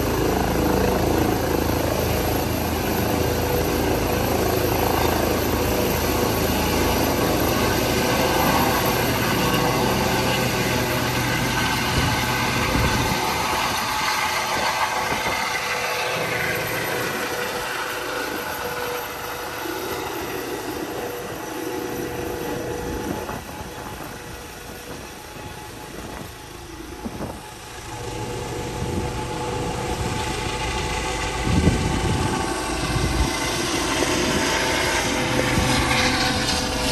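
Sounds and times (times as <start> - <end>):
helicopter rotor noise: 0.0 - 36.9
helicopter turbine whine: 0.0 - 36.9.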